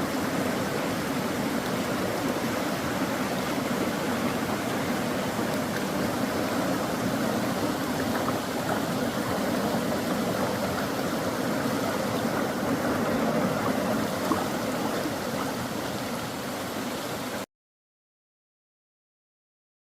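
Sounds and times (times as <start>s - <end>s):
stream rushing over rocks: 0.0s - 17.5s.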